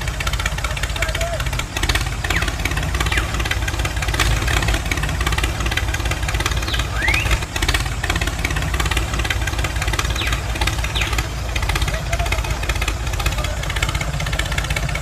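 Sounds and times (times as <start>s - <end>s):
small tractor engine chugging: 0.0s - 15.0s.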